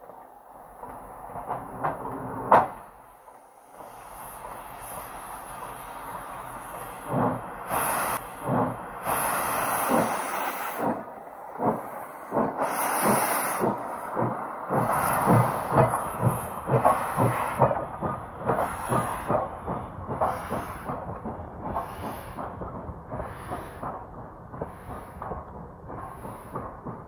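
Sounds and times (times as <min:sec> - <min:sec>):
steam hissing: 0:00.0 - 0:27.0
steam locomotive exhaust chuffs: 0:00.0 - 0:27.0.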